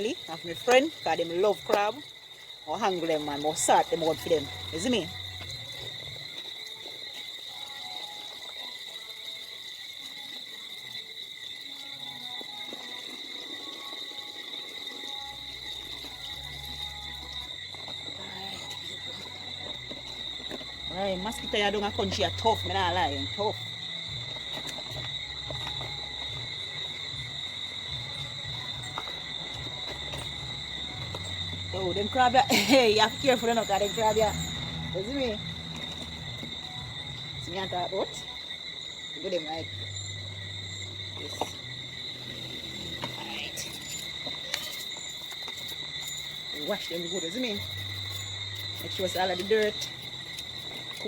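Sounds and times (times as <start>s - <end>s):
crickets trilling: 0.0s - 51.0s
insect chorus chirring: 0.0s - 51.0s.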